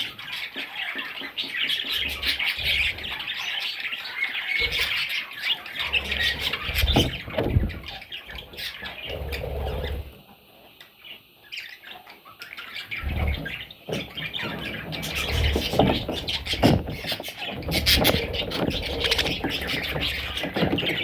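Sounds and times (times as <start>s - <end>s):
budgerigars squawking and chattering: 0.0s - 10.2s, 10.8s - 21.0s.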